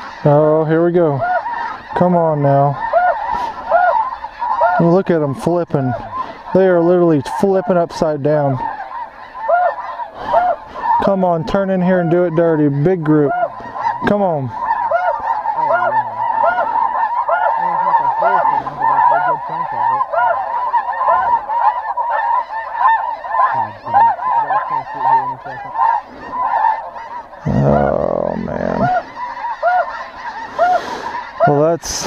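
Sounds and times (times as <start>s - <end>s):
snow geese honking: 0.0s - 32.0s.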